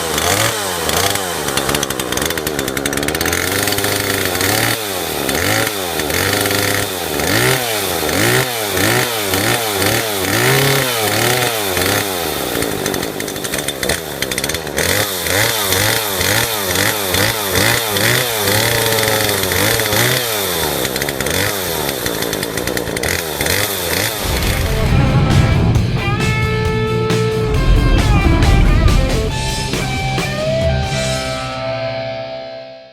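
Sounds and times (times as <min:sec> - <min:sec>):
chainsaw revving: 0:00.0 - 0:31.2.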